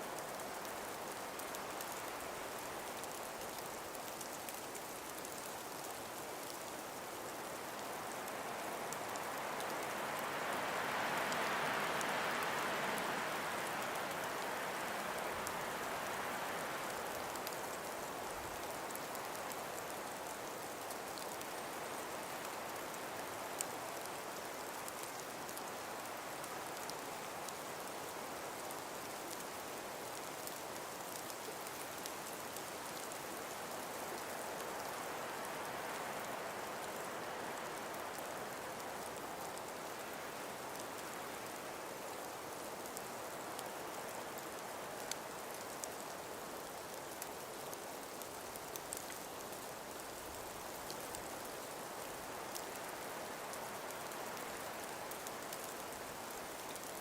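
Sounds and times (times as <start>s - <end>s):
breeze through trees: 0.0s - 57.0s
faint ticks: 0.1s - 57.0s.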